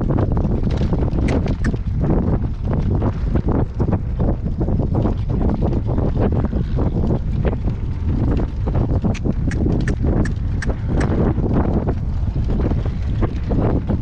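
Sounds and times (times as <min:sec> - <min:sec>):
horse hooves on hard ground: 0:00.0 - 0:14.0
wind buffeting microphone: 0:00.0 - 0:14.0.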